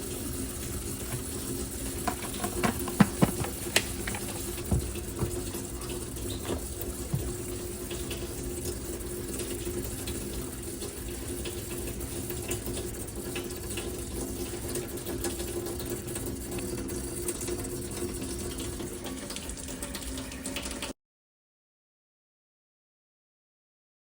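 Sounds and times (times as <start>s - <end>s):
water running from faucet: 0.0s - 21.0s.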